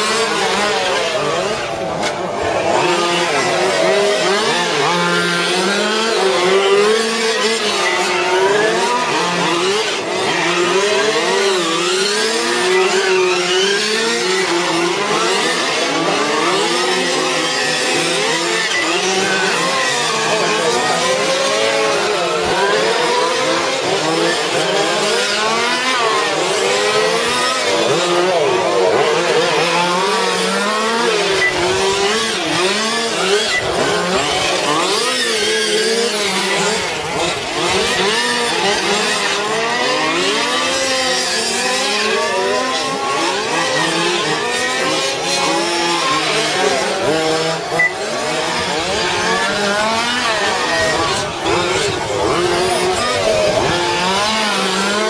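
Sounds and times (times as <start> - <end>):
toy racing car motors whining: 0.0 - 55.0.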